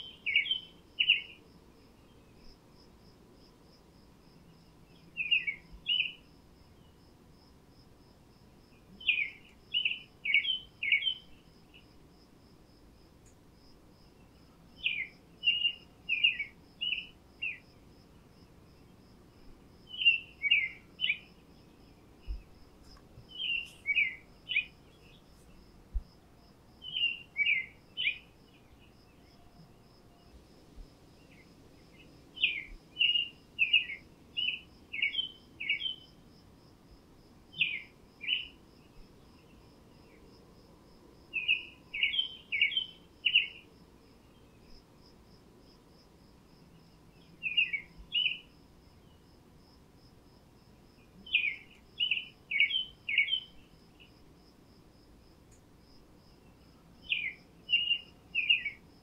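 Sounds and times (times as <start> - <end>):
songbird singing: 0.0 - 36.7, 37.4 - 49.7, 50.4 - 54.5, 55.2 - 59.0
faint insect ticking: 0.0 - 59.0.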